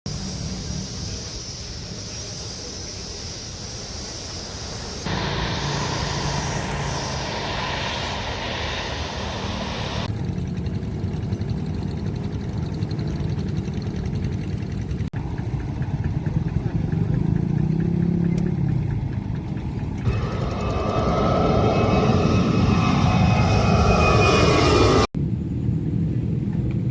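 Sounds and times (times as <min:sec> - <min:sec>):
vehicle engine rumble: 0:03.6 - 0:26.9.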